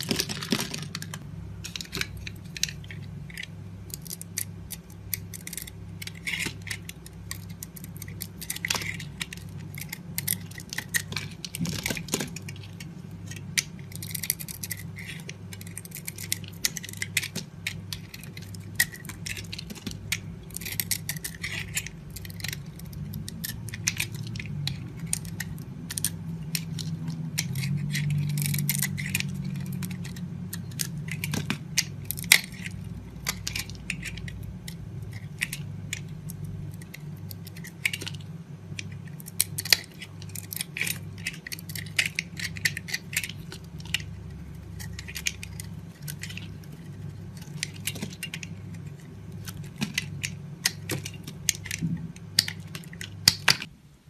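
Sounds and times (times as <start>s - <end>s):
knife carving soap: 1.6s - 53.7s.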